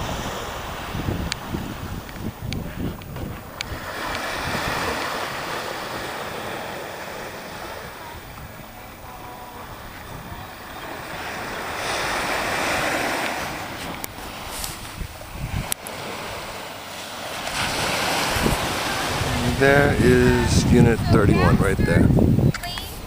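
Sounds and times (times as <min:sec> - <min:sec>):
waves breaking on beach: 0:00.0 - 0:23.0
wind rumbling on microphone: 0:00.0 - 0:23.0.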